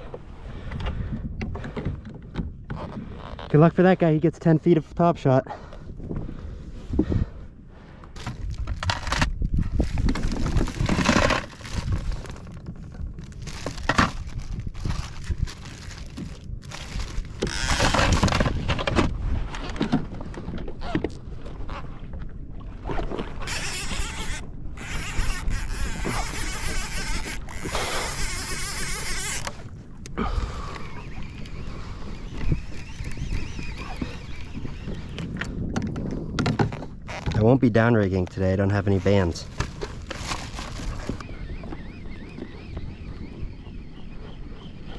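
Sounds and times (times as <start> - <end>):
wind gusting on microphone: 0.0 - 44.9
water splashing around a kayak: 5.7 - 44.9.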